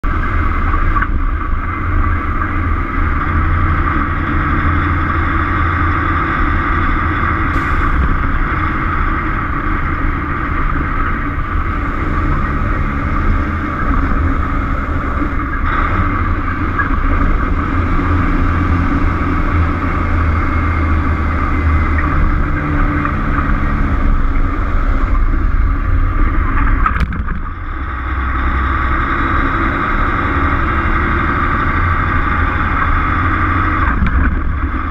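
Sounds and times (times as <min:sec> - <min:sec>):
road and wind noise: 0:00.0 - 0:34.9
truck diesel engine drone: 0:00.0 - 0:34.9.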